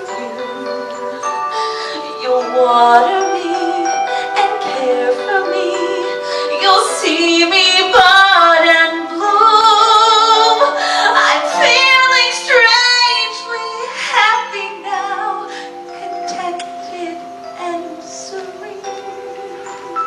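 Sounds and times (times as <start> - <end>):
musical accompaniment: 0.0 - 20.0
woman singing with vibrato: 0.0 - 20.0.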